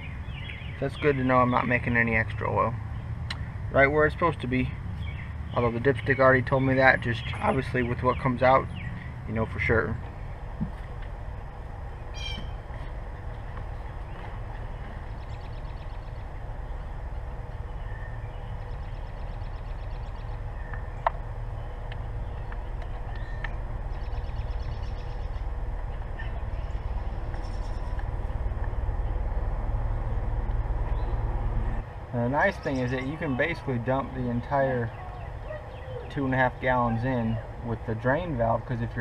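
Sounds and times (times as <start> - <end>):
birds trilling: 0.0 - 39.0
steady low rumble: 0.0 - 39.0.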